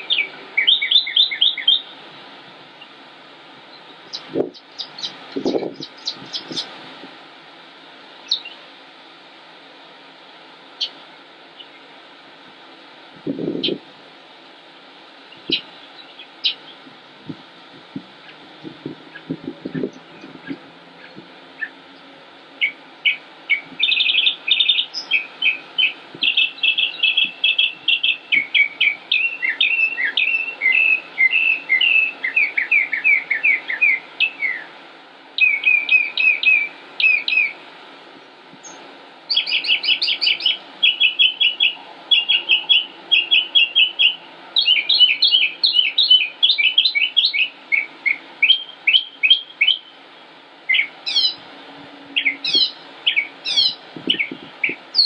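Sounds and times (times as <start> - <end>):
songbird singing: 0.0 - 7.2, 8.1 - 8.8, 10.1 - 12.0, 13.3 - 14.5, 15.1 - 55.0.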